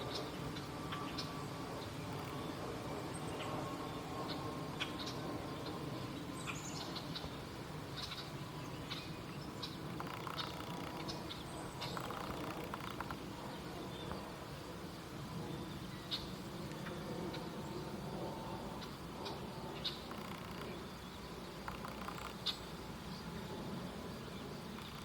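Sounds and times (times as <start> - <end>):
birds chirping: 0.0 - 25.0
low background rumble: 0.0 - 25.0.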